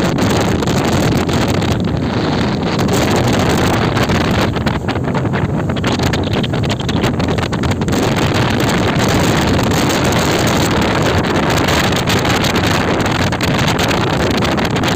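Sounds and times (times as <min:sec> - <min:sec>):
speedboat motor running: 0:00.0 - 0:14.9
wind buffeting microphone: 0:00.0 - 0:14.9.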